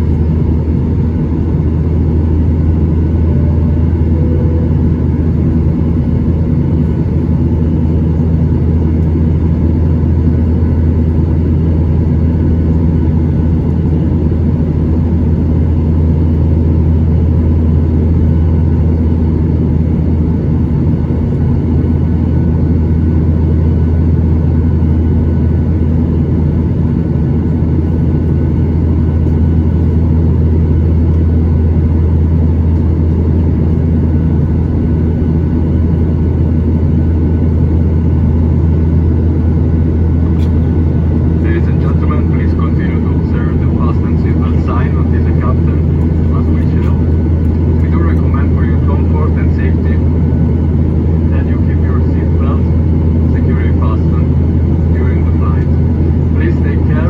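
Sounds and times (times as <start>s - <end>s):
jet cabin drone: 0.0s - 57.0s.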